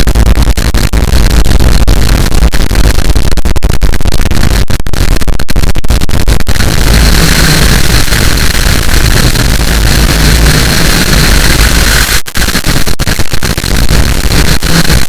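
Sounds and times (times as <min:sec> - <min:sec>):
loud distorted static noise: 0:00.0 - 0:15.0.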